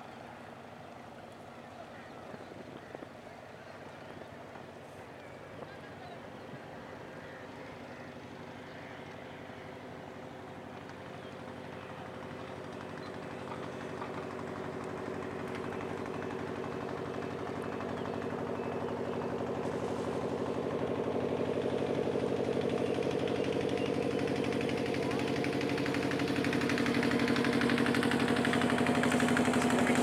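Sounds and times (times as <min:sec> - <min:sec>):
engine chugging: 0:00.0 - 0:30.0.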